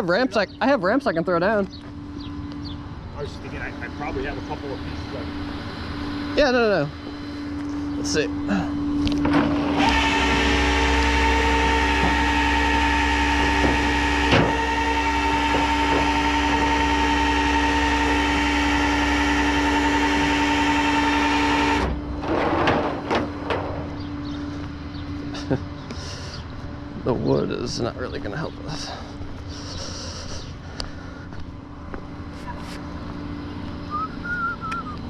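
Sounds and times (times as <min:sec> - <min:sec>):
tow truck loading machinery whining: 0:00.0 - 0:35.0.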